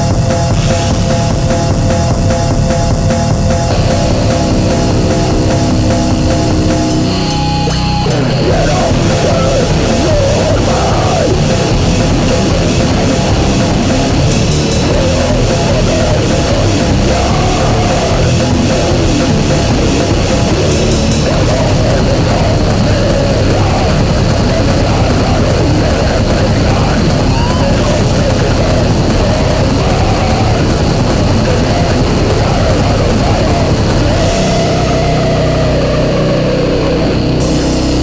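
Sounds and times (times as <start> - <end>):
drum kit: 0.0 - 38.0
heavy metal punk rock music: 0.0 - 38.0.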